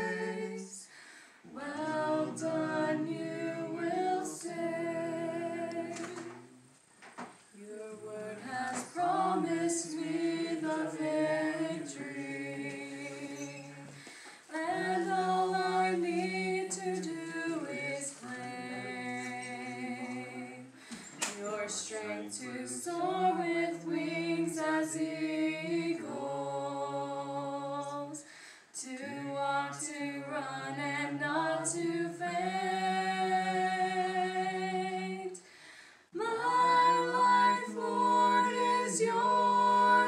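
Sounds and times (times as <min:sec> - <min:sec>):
group singing a cappella: 0:00.0 - 0:06.8, 0:07.6 - 0:40.0.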